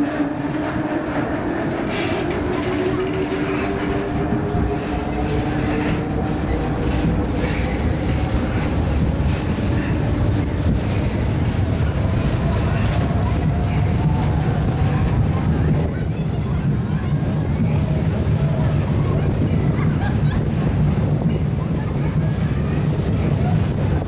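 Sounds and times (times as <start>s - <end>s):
ride machinery running: 0.0s - 24.0s.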